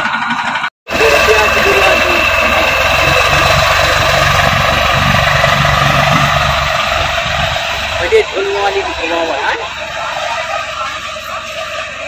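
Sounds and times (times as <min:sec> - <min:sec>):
tractor diesel engines running: 0:00.0 - 0:12.0.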